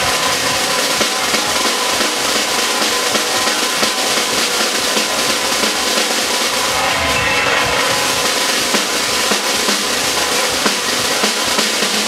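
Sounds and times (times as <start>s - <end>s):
rock drum kit playing fast: 0.0s - 12.0s.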